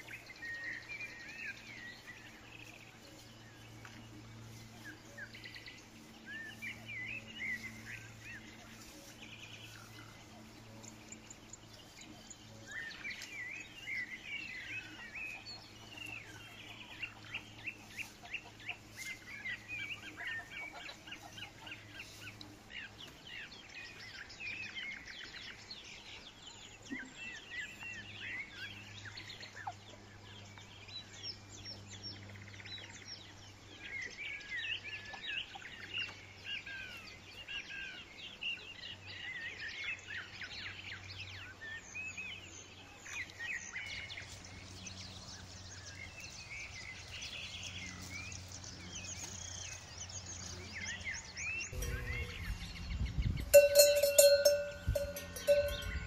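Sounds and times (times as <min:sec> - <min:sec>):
steady low hum: 0:00.0 - 0:37.4, 0:39.7 - 0:56.0
birds chirping: 0:00.0 - 0:56.0.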